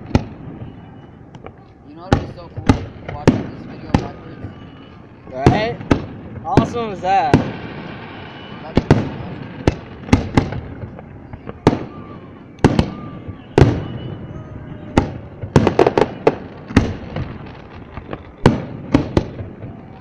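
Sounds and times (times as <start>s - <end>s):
fireworks bangs echoing: 0.0s - 20.0s.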